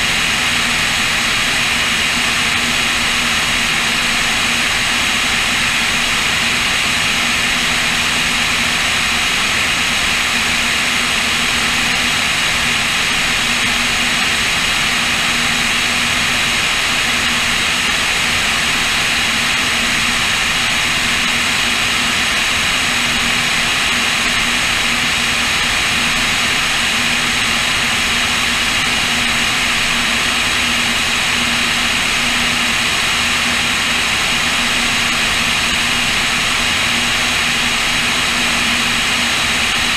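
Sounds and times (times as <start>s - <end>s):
aircraft piston engines: 0.0s - 39.9s.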